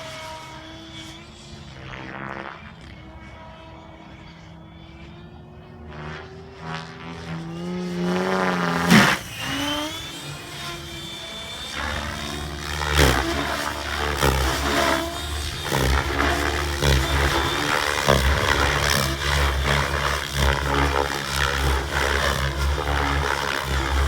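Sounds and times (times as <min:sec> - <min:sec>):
helicopter whooshing past: 0:00.0 - 0:24.0
model helicopter rotor and motor: 0:00.0 - 0:24.0.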